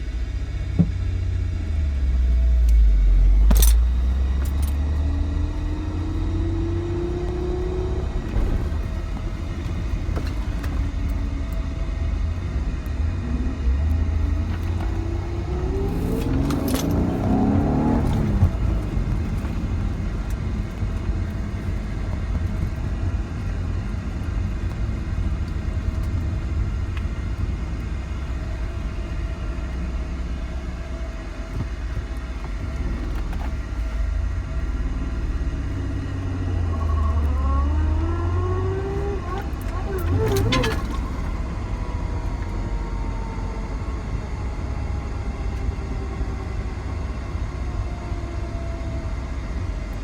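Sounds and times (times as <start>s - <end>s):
car engine revving under load: 0.0s - 50.0s
low road rumble: 0.0s - 50.0s.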